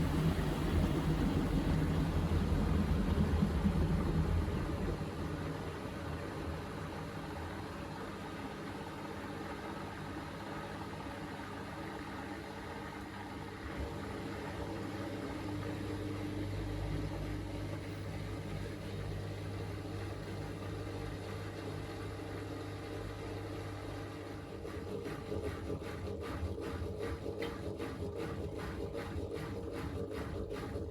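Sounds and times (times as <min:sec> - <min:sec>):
washing machine motor hum: 0:00.0 - 0:30.9.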